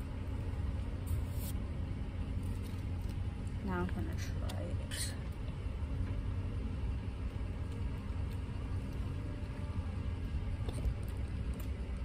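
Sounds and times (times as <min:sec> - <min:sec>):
car idling rumble from inside: 0:00.0 - 0:12.0
faint steady hum: 0:00.0 - 0:12.0.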